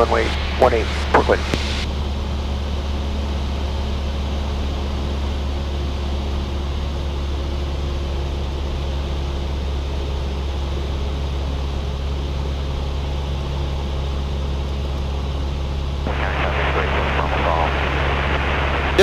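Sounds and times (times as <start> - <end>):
airplane engine and propeller drone: 0.0 - 19.0.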